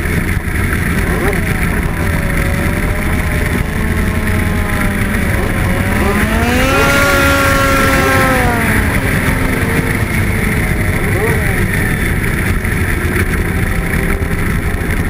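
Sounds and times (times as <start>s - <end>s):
snowmobile engines revving: 0.0s - 15.0s.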